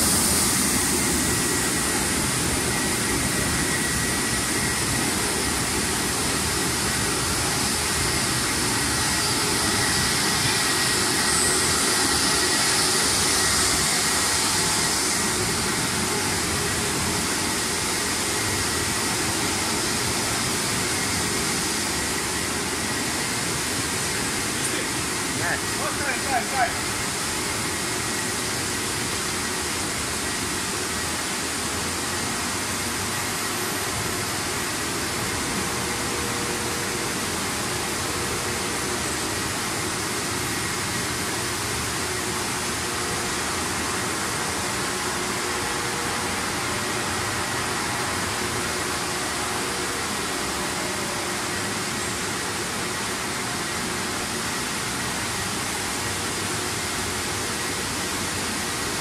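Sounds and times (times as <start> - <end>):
faint steady whines: 0.0 - 59.0
production line machine hiss: 0.0 - 59.0.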